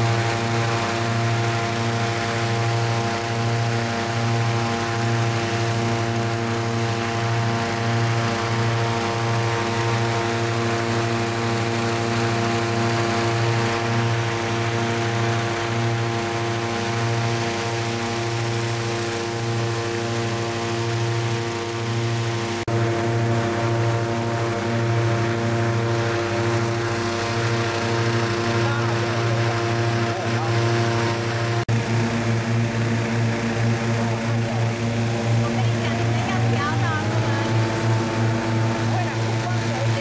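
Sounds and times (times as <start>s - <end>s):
engine droning hum: 0.0s - 40.0s.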